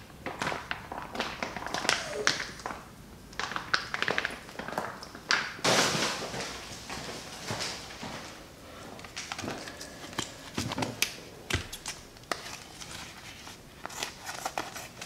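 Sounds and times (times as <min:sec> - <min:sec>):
plastic wrapper crinkling: 0:00.2 - 0:15.0.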